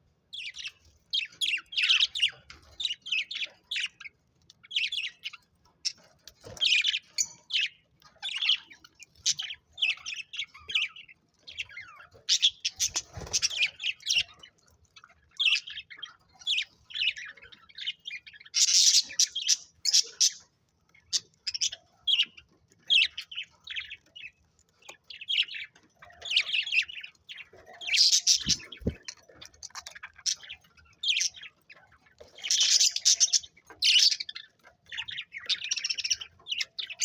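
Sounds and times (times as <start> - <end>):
budgerigars chirping and chattering: 0.3 - 37.0.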